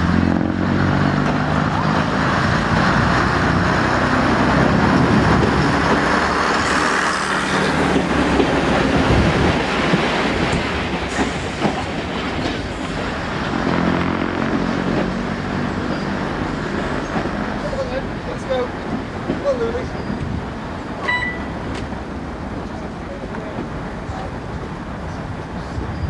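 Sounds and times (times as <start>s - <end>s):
diesel railcar passing: 0.0s - 26.0s.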